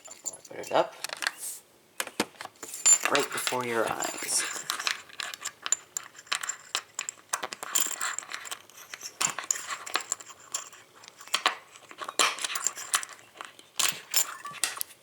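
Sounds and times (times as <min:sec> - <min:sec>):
key turning in padlock: 0:02.8 - 0:14.9.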